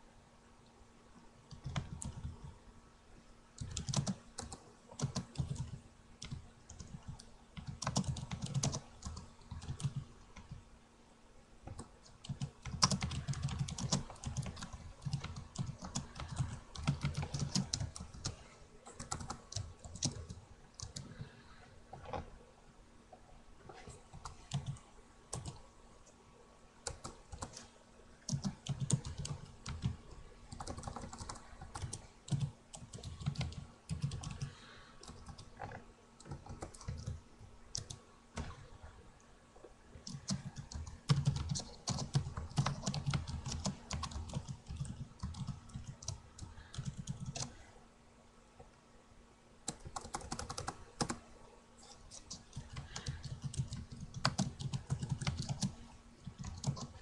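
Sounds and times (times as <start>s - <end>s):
computer keyboard typing: 1.5s - 2.5s, 3.6s - 10.6s, 11.7s - 21.4s, 24.1s - 25.6s, 26.8s - 38.6s, 40.0s - 47.6s, 49.6s - 51.2s, 51.8s - 57.0s.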